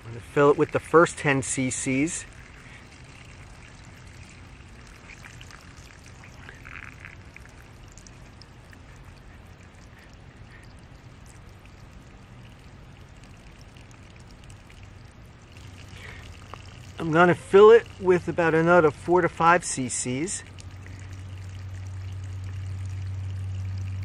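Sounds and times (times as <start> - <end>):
water pouring onto gravel: 0.0 - 24.0.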